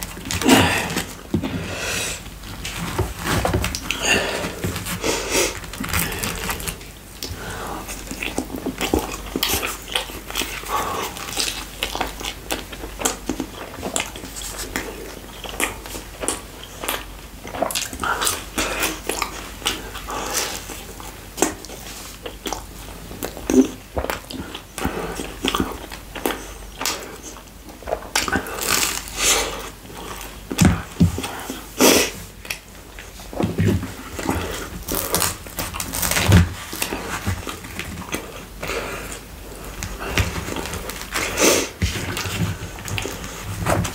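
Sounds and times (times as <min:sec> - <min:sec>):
man chewing with wet mouth sounds: 0:00.0 - 0:43.9.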